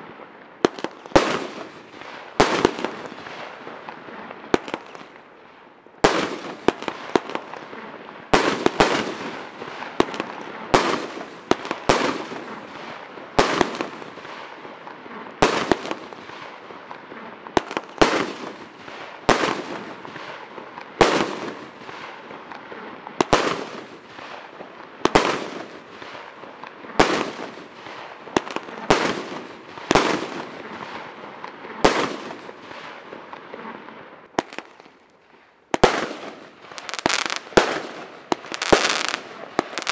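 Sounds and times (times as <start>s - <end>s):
fireworks bangs: 0.0s - 5.2s, 6.0s - 39.9s
fireworks hiss and crackle: 0.0s - 39.9s.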